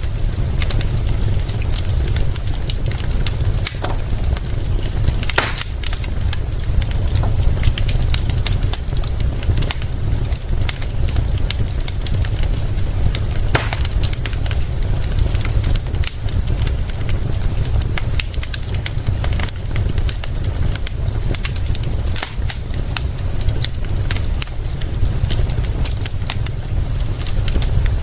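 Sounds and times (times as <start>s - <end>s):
steady low rumble: 0.0s - 28.0s
wood fire crackling: 0.0s - 28.0s.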